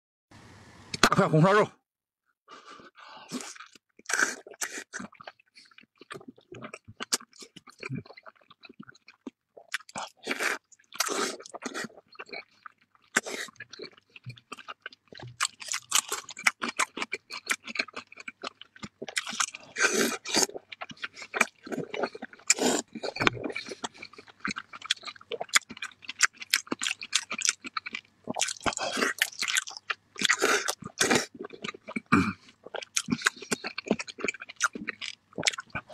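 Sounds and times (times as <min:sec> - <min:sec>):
chewing and biting food: 0:02.8 - 0:35.9.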